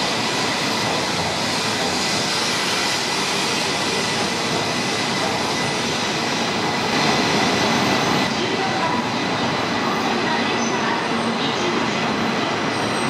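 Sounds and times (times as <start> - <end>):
train running slowly: 0.0 - 13.0.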